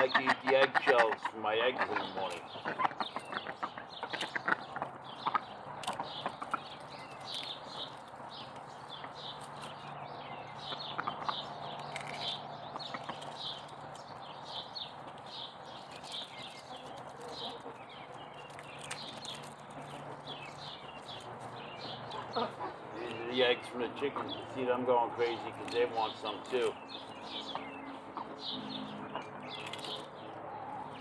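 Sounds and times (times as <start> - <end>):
birds chirping: 0.0 - 31.0
sharp crunching clicks: 1.9 - 22.3, 25.2 - 28.4, 29.0 - 30.4.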